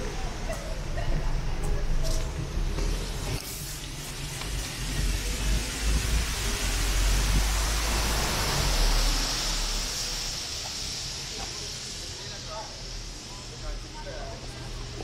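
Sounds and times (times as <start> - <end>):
vehicle low rumble: 0.0 - 15.0
tyre hiss: 2.1 - 15.0.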